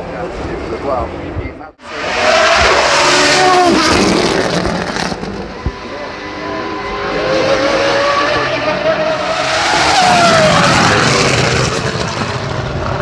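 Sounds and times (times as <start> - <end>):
racing car engine at high revs: 1.8 - 13.0.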